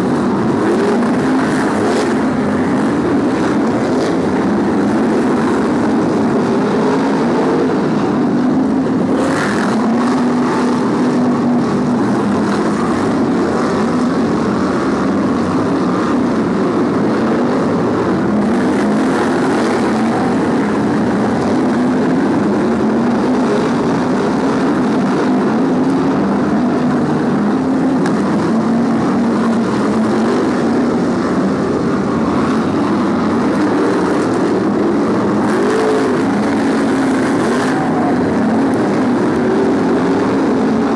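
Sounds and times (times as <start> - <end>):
racing car engines: 0.0 - 40.9.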